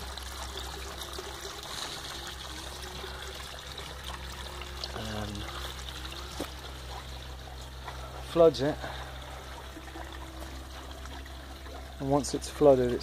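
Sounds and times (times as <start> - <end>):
water trickling over pebbles: 0.0 - 13.0.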